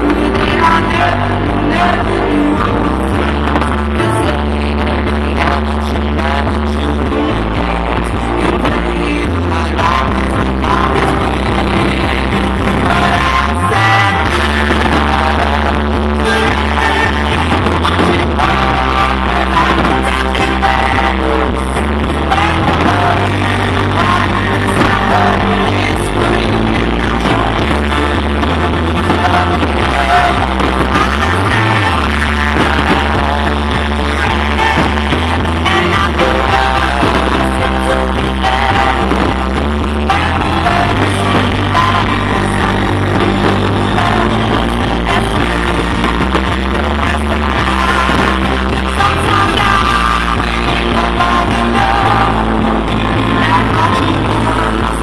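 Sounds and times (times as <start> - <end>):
deep bass notes: 0.0 - 55.0
loud music with singing: 0.0 - 55.0.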